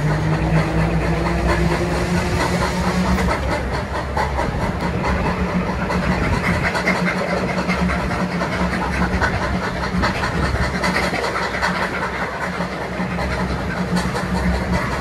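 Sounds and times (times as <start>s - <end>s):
train running: 0.0s - 15.0s.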